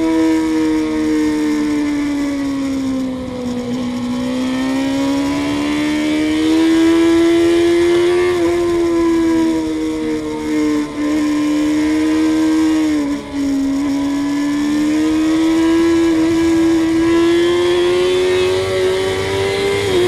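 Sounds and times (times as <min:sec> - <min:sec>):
sport bike engine revving: 0:00.0 - 0:20.0.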